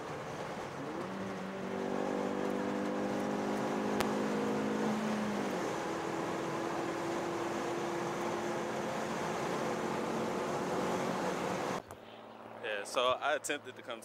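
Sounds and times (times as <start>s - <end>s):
road noise inside car cabin: 0.0s - 11.9s
car engine: 0.0s - 12.6s.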